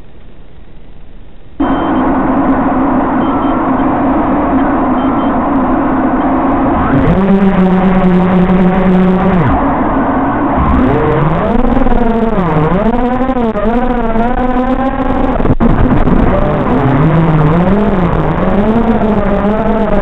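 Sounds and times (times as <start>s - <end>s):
drone motors humming: 0.0s - 20.0s.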